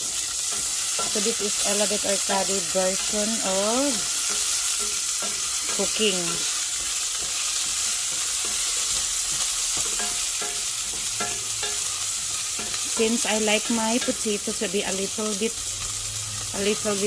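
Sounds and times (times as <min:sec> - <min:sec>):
chicken and onion sizzling: 0:00.0 - 0:17.0
utensil stirring in pot: 0:00.0 - 0:17.0.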